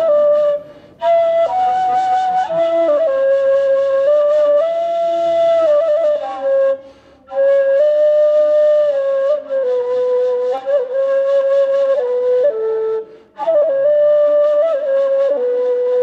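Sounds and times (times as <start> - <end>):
end-blown reed flute melody: 0.0 - 16.0.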